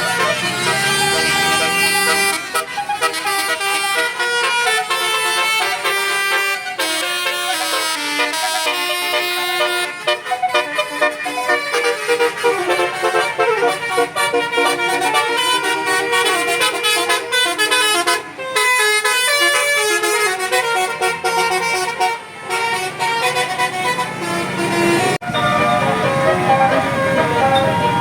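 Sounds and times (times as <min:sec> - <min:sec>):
bus musical horn playing a tune: 0:00.0 - 0:28.0.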